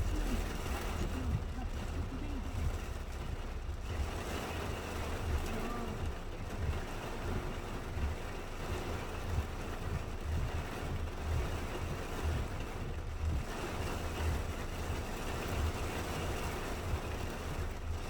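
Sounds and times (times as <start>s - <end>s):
low rumbling thumps: 0.0s - 18.0s
steady rain hiss: 0.0s - 18.0s.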